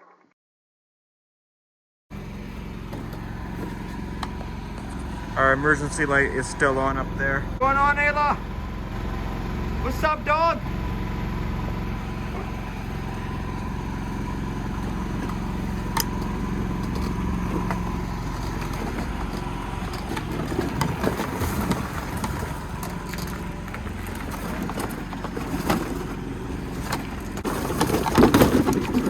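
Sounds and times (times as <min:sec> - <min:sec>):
machine humming: 0:02.1 - 0:29.0
rattling and clattering: 0:02.5 - 0:07.6, 0:10.6 - 0:29.0.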